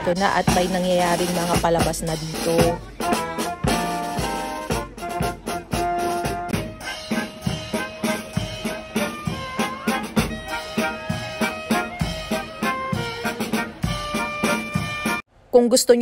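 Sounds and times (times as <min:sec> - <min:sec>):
brass band playing: 0:00.0 - 0:15.2
marching drum beat: 0:00.0 - 0:15.2.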